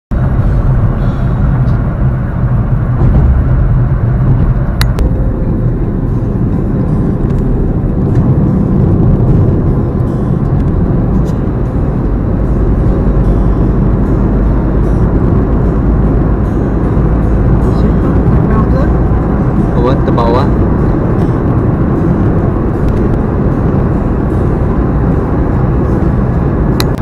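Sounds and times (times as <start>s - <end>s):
car engine and road noise: 0.1s - 27.0s.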